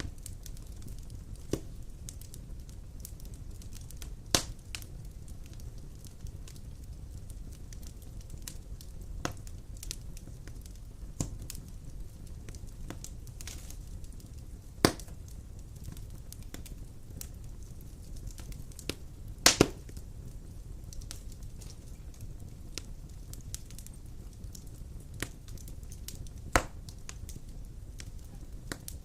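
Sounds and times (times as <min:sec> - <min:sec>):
fire crackles and pops: 0:00.0 - 0:29.0
fire rumbling in fireplace: 0:00.0 - 0:29.0.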